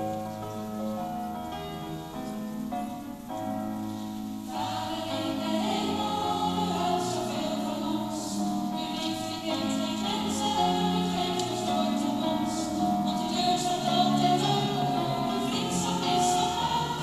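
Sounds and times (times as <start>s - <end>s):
instrumental hymn accompaniment: 0.0s - 17.0s
congregation singing: 3.2s - 17.0s.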